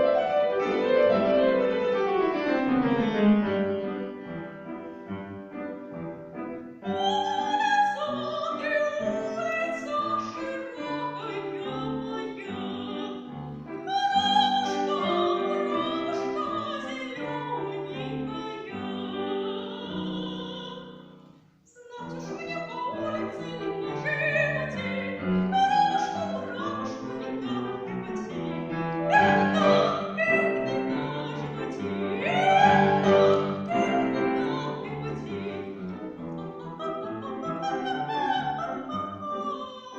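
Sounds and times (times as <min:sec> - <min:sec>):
piano accompaniment: 0:00.0 - 0:21.4, 0:22.0 - 0:39.9
woman singing classical style: 0:06.6 - 0:39.9.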